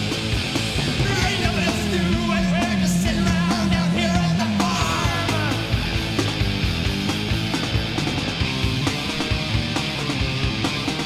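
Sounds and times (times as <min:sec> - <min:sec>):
rock song on vinyl: 0:00.0 - 0:11.0.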